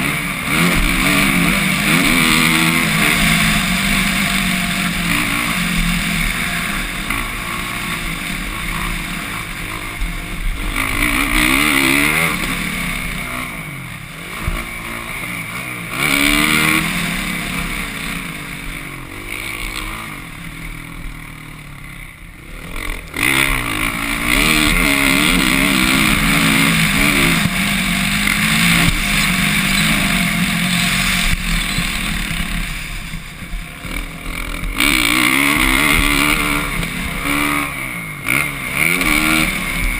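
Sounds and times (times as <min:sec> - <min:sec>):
motorcycle engine revving: 0:00.0 - 0:39.9
steady rushing noise: 0:00.0 - 0:39.9.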